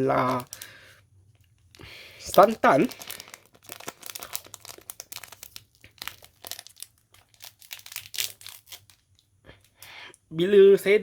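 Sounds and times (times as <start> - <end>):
sachet crinkling and rustling: 0.0 - 9.9.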